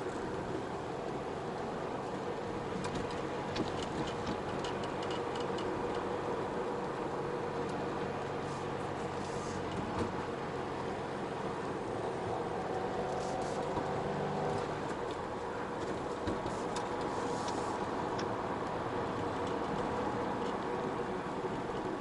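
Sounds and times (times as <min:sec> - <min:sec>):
car engine hum: 0:00.0 - 0:22.0.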